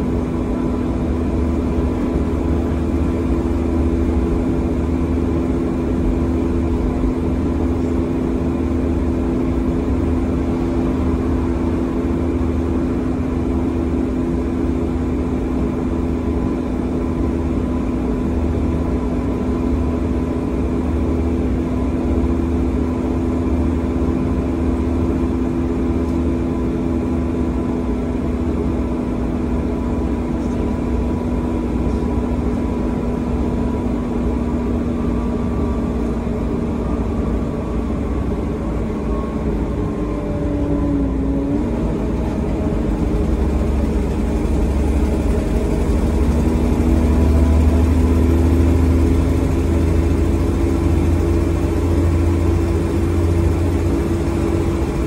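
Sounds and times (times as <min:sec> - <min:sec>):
bus diesel engine drone: 0:00.0 - 0:55.0
engine whine: 0:00.0 - 0:55.0.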